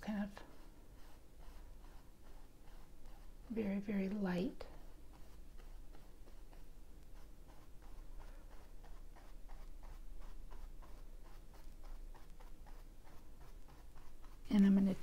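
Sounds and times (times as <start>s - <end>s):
paintbrush strokes on canvas: 0.0s - 15.0s.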